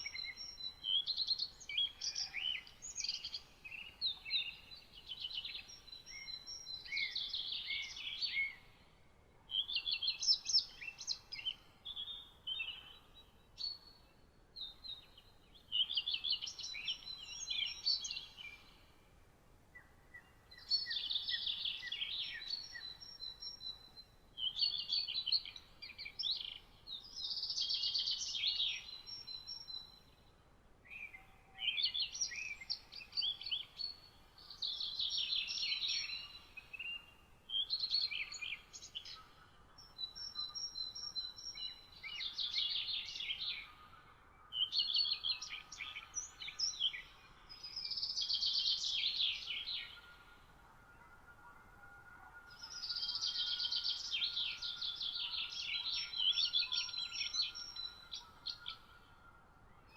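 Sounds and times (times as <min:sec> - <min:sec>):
songbirds twittering: 0:00.0 - 0:59.9.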